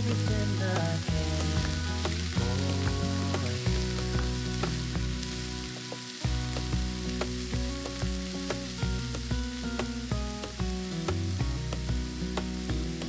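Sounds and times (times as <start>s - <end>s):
background music: 0.0s - 13.0s
food sizzling in a pan: 0.0s - 13.0s.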